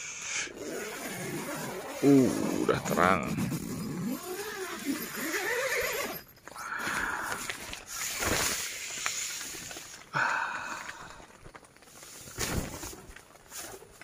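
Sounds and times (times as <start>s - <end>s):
tent fabric rustling: 0.5s - 10.1s, 10.7s - 14.0s.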